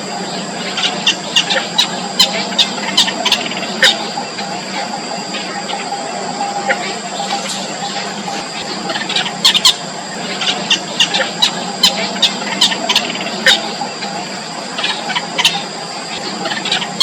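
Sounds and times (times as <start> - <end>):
chicks begging cheeps: 0.0 - 17.0
steady high whine: 0.0 - 17.0.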